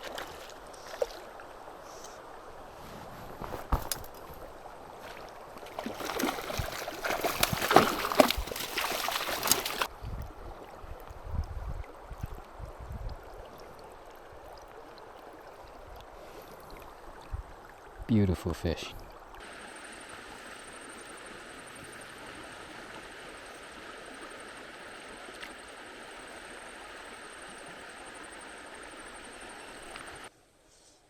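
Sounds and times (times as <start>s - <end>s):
creek water running: 0.0s - 30.3s.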